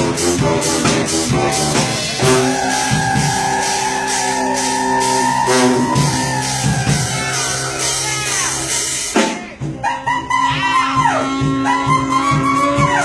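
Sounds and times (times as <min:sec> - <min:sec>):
brass band playing: 0:00.0 - 0:13.0
drum beat: 0:00.0 - 0:13.0.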